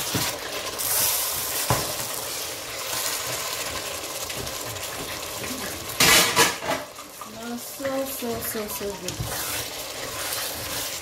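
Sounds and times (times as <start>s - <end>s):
spatula stirring in a pot: 0.0s - 11.0s
stew sizzling and simmering in a pot: 0.0s - 11.0s.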